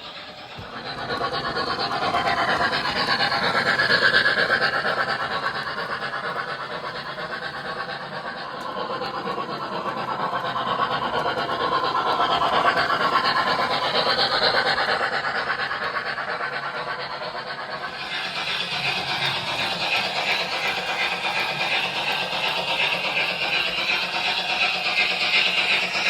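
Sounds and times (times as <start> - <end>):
model train rhythmic rumble: 0.0 - 26.0.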